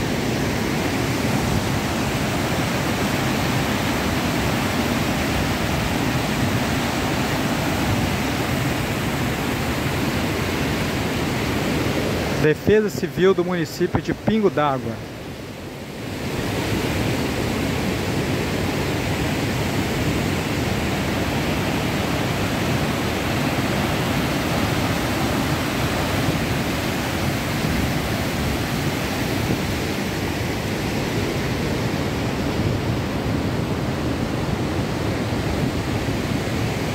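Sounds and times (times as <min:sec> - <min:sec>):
water rushing over rocks: 0:00.0 - 0:36.9.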